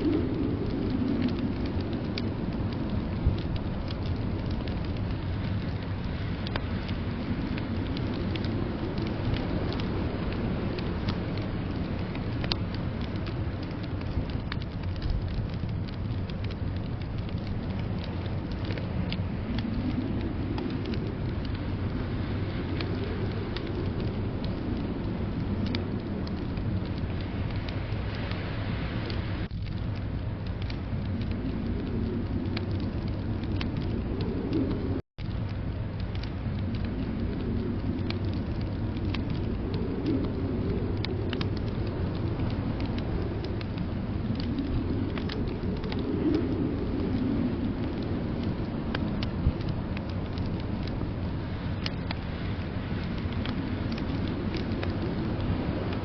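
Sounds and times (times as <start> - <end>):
blizzard wind rushing: 0.0 - 56.0
wood fire crackling: 0.0 - 56.0.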